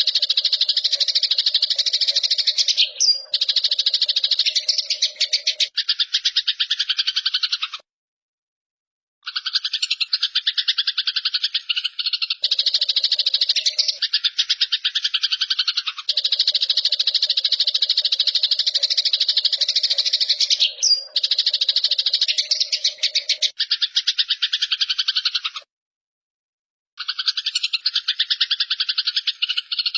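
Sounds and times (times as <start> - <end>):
sparrows chattering: 0.0 - 7.8, 9.2 - 25.7, 27.0 - 29.9.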